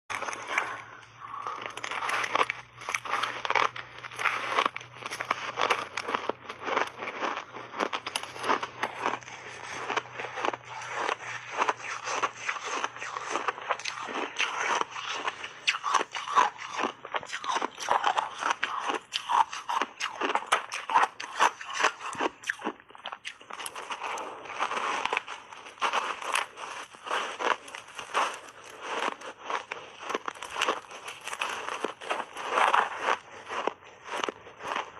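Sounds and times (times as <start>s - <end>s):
ice being chewed crunching: 0.1s - 34.9s.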